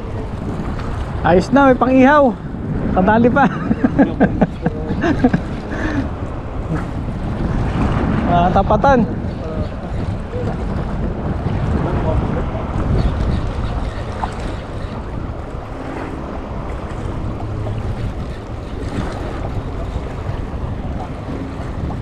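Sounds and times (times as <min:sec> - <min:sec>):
sea waves: 0:00.0 - 0:22.0
wind buffeting microphone: 0:00.0 - 0:22.0.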